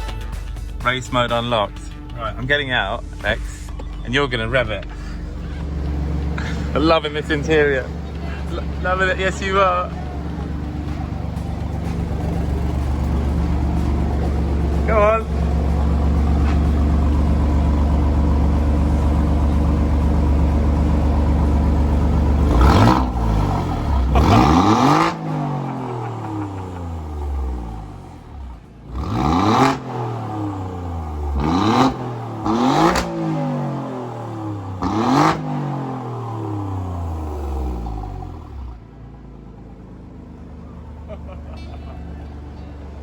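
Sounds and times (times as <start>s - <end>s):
engine revving in blips: 0.0s - 38.9s
car engine idling: 0.0s - 43.0s.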